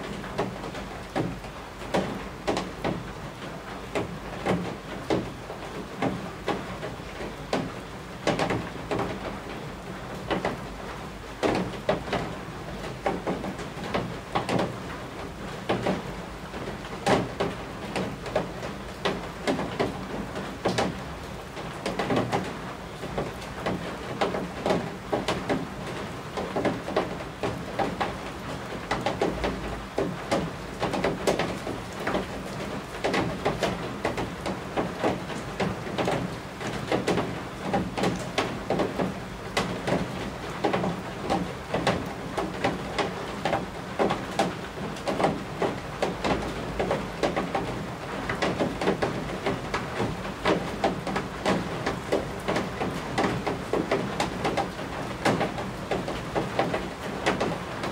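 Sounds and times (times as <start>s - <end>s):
raindrops knocking on eaves: 0.0s - 57.9s
steady rainfall hiss: 0.0s - 57.9s.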